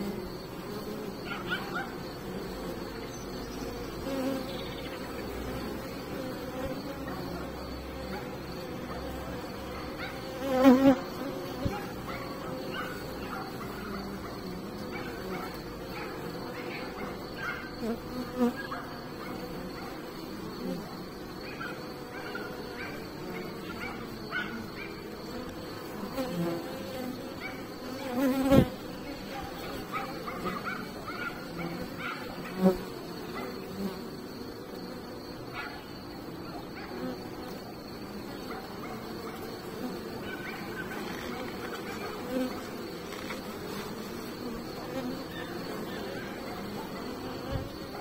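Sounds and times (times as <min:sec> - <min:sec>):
hum of many bees: 0:00.0 - 0:48.0
single bee buzzing past: 0:00.0 - 0:48.0.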